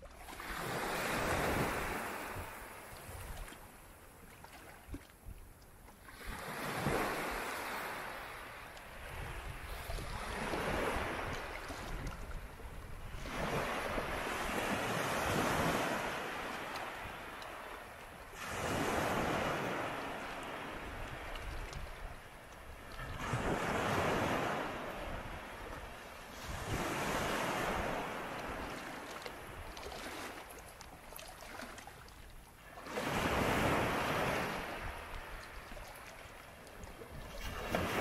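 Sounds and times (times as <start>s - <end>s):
sea waves washing in: 0.0s - 3.8s, 6.1s - 38.0s.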